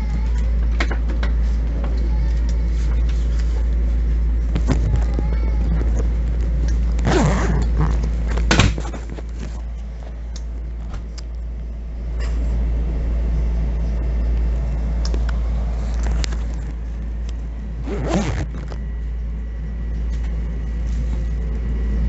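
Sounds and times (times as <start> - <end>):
train car low rumble: 0.0 - 22.0.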